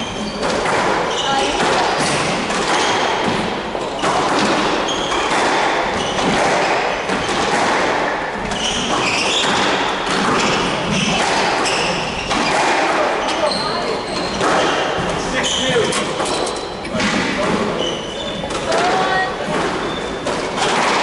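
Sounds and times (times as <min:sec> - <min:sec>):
shoes squeaking on wooden floor: 0:00.0 - 0:07.7, 0:08.4 - 0:20.6
squash ball hitting rackets and walls: 0:00.0 - 0:21.0.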